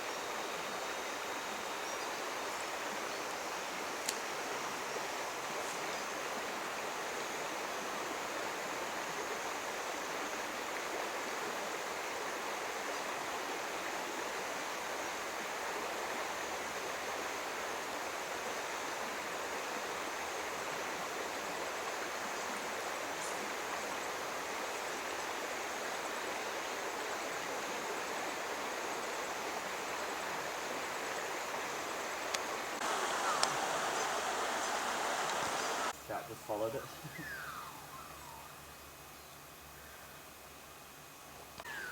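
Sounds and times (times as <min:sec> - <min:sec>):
stream water flowing: 0:00.0 - 0:38.4.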